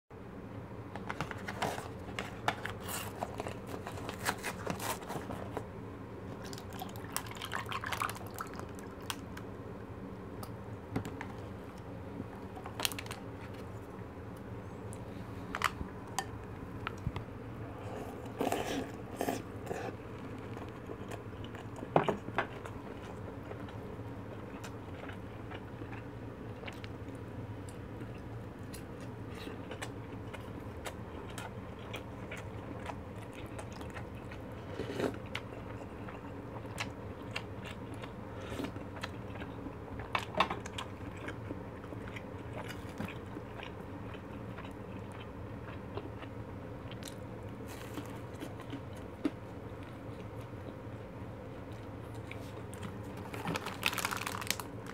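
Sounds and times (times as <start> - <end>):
soft chewing: 10.4 - 54.9.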